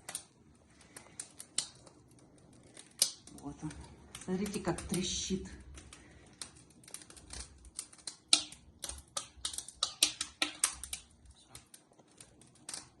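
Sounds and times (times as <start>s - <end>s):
firewood crackling in fireplace: 0.0s - 13.0s.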